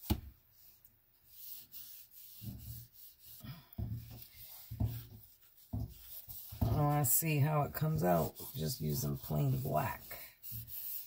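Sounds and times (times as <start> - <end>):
fingers rubbing paint on canvas: 1.3 - 11.0.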